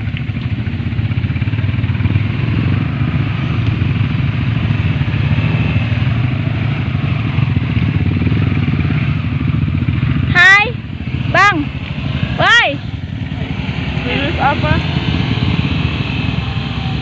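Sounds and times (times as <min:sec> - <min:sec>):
motorcycle engine in low gear: 0:00.0 - 0:17.0.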